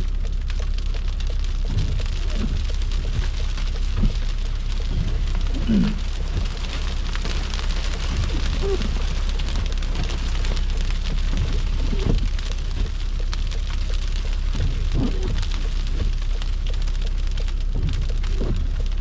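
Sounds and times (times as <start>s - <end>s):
car engine and tyres on slush: 0.0s - 19.0s
snow hissing and ticking on car: 0.0s - 19.0s.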